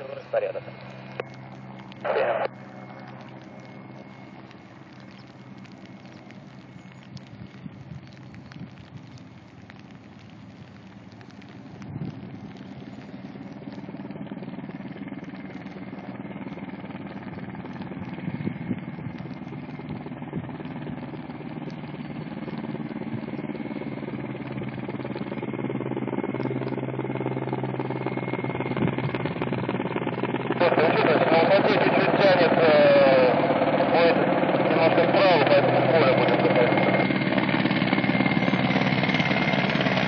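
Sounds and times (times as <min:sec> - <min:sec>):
helicopter engine and rotor: 0:00.0 - 0:40.0
high whine: 0:00.0 - 0:40.0.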